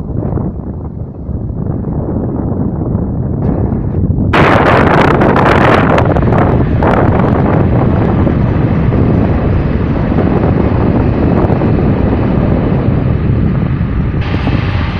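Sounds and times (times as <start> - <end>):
vehicle wind and road noise: 0.0 - 14.9.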